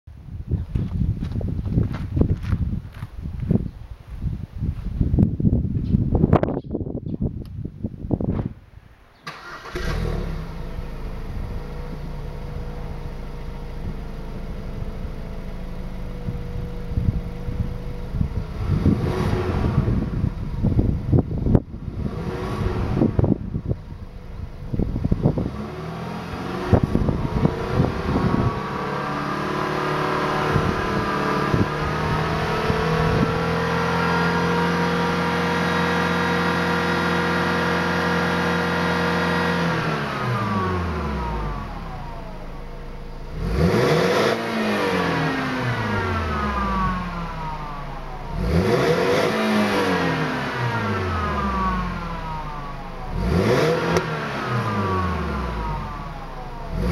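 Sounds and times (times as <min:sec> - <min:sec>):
car engine revving: 0:09.3 - 0:56.9.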